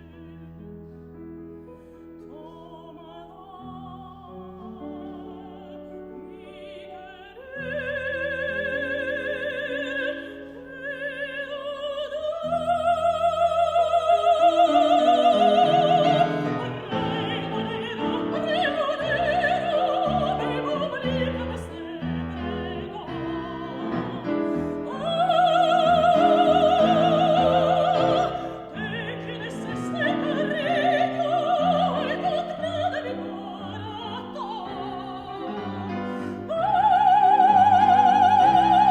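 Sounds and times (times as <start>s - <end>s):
piano chords: 0.0s - 38.9s
soprano singing: 0.0s - 38.9s.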